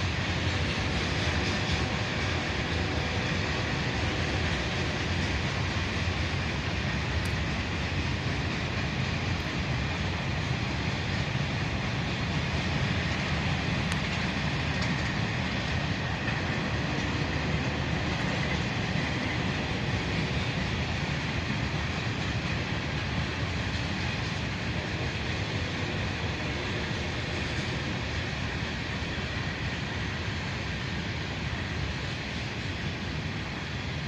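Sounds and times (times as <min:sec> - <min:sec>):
freight train wheels rumbling on rails: 0:00.0 - 0:34.0.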